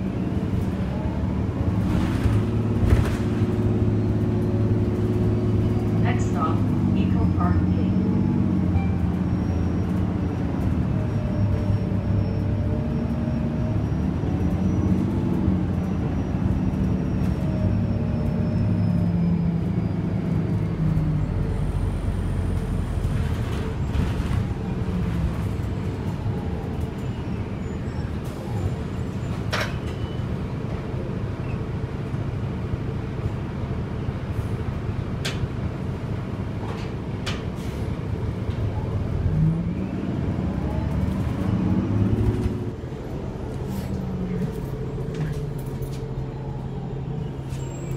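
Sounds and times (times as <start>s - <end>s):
bus drivetrain and road rumble: 0.0s - 47.9s.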